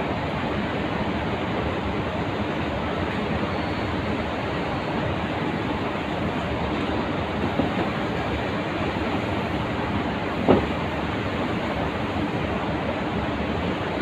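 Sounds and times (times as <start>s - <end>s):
factory hall background noise: 0.0s - 14.0s.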